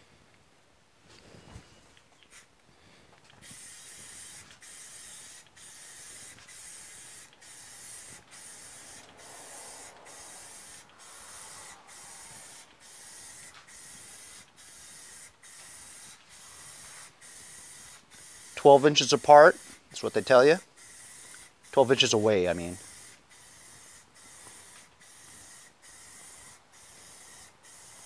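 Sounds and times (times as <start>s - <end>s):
spray paint hissing: 2.2s - 2.5s, 3.3s - 28.0s.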